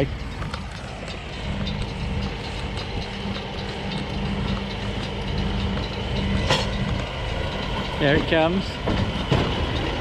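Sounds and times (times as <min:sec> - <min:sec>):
baler clattering: 0:00.0 - 0:10.0
tractor engine hum: 0:00.0 - 0:10.0.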